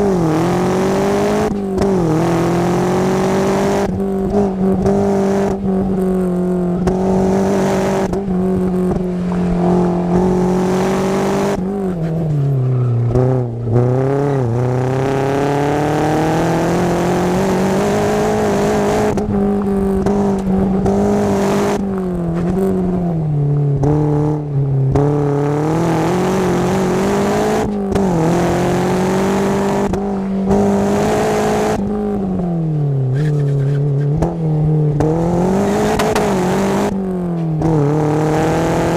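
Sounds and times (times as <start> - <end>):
car engine running under load: 0.0 - 38.9.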